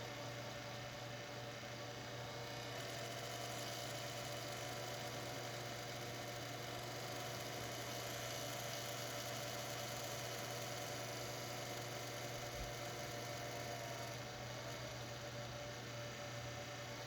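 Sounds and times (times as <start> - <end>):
computer humming and whirring: 0.0 - 17.0.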